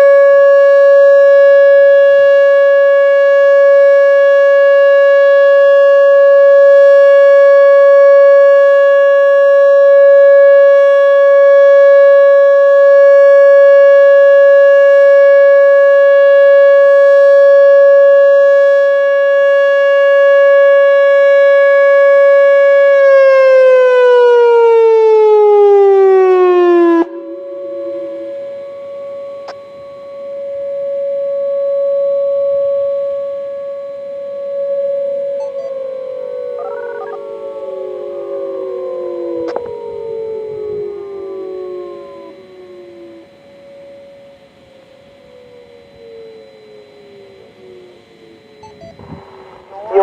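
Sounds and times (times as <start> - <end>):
electronic siren tone: 0.0 - 50.0.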